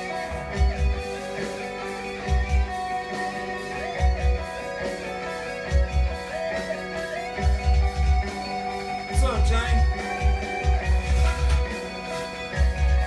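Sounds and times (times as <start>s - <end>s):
deep bass beats: 0.0s - 13.0s
guitar-led music: 0.0s - 13.0s.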